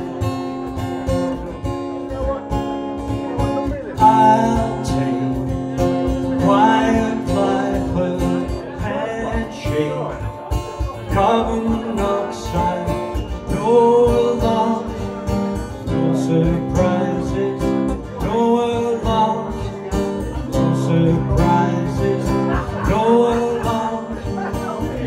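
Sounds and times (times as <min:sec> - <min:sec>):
acoustic guitar strumming: 0:00.0 - 0:25.0
man singing: 0:03.0 - 0:25.0.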